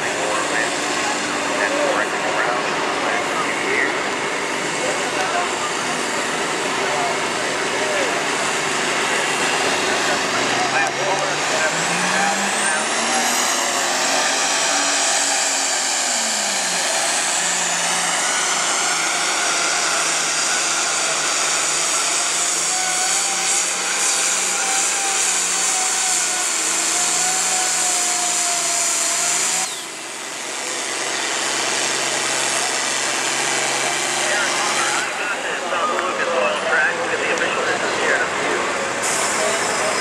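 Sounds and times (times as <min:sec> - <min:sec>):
diesel tractor engine at full throttle: 0:00.0 - 0:40.0
high engine whine: 0:00.0 - 0:40.0.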